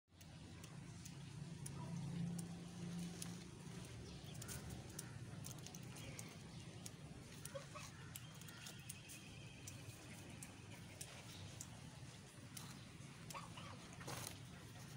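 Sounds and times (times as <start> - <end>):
geese dabbling bills in water: 0.2 - 14.9
thin high peeping: 0.2 - 14.9.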